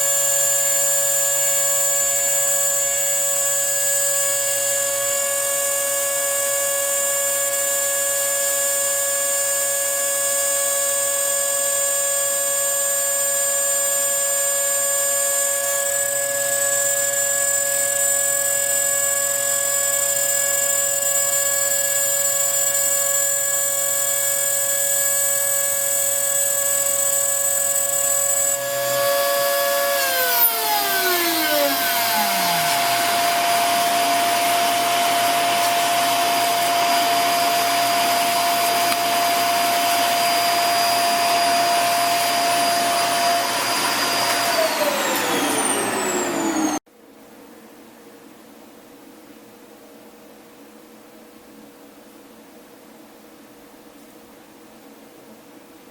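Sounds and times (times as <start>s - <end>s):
spindle motor whining: 0.0s - 8.3s, 10.0s - 46.8s.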